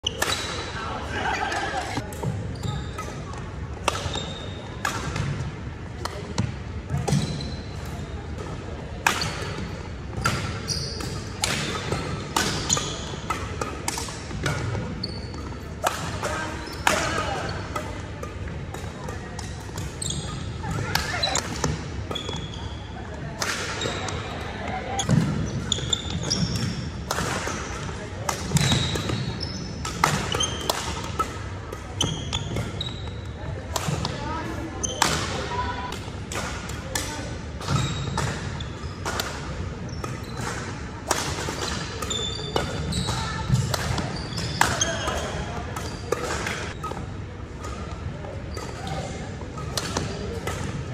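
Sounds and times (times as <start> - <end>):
sneakers squeaking on court floor: 0.0 - 35.9, 37.0 - 40.8, 41.4 - 50.9
rackets striking shuttlecock: 3.0 - 22.4, 25.0 - 34.2, 34.9 - 50.9.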